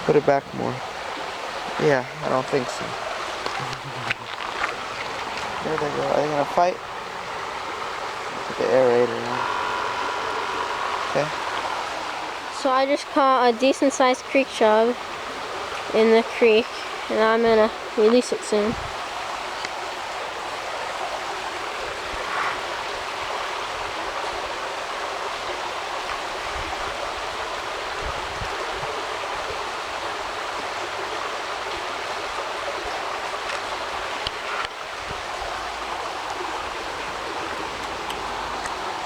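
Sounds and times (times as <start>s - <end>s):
creek running over rocks: 0.0s - 39.0s.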